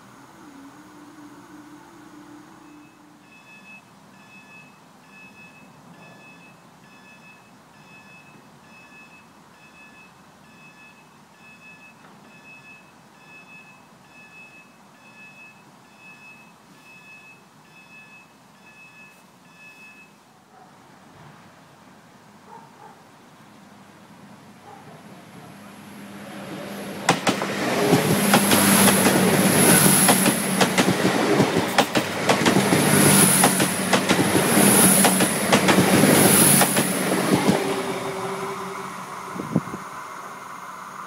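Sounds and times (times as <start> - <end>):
level crossing alarm beeping: 1.1 - 20.2, 27.0 - 41.0.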